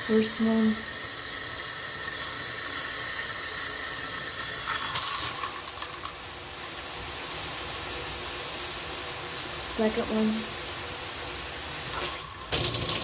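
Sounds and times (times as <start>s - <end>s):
shower head spraying water: 0.0s - 13.0s.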